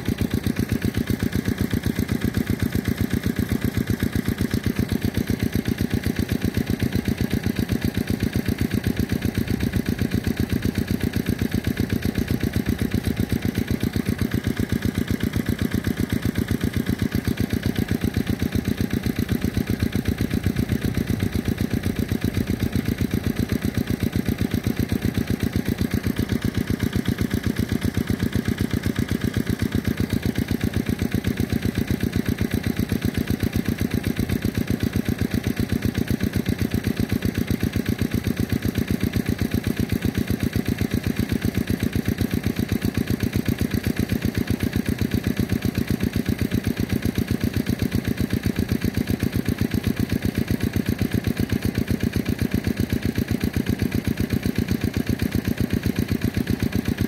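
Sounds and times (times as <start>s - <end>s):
diesel pump engine running: 0.0s - 57.0s.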